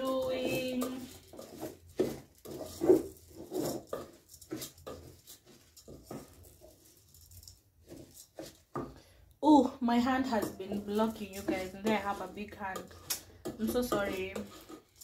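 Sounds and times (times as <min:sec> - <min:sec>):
food frying in pot: 0:00.0 - 0:15.0
wooden spoon scraping pot: 0:00.0 - 0:15.0.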